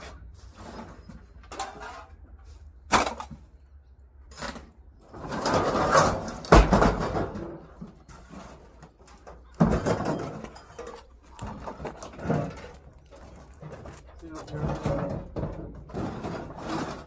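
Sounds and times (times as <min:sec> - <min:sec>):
scrap metal scraping and rattling: 0:00.0 - 0:17.0.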